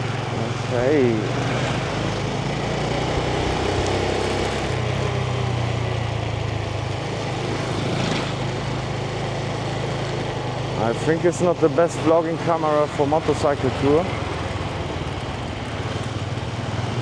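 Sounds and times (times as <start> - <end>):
motorbike engine running: 0.0 - 17.0
road and traffic noise: 0.0 - 17.0.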